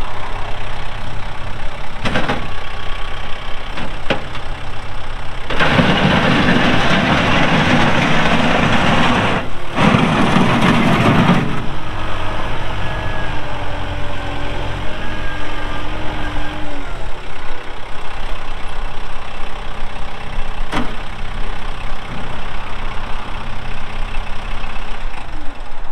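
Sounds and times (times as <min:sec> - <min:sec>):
faint engine whine: 0:00.0 - 0:25.9
tractor diesel engine running: 0:00.0 - 0:25.9.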